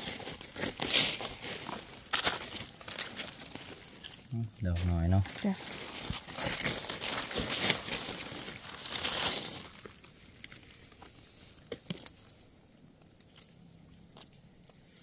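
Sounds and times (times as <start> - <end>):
dry leaves rustling: 0.0 - 12.2.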